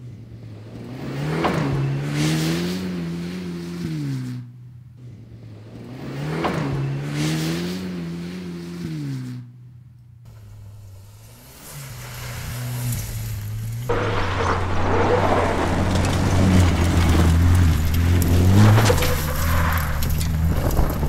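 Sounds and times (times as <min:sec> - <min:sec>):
rally car engine revving: 0:00.0 - 0:09.7, 0:10.3 - 0:21.0.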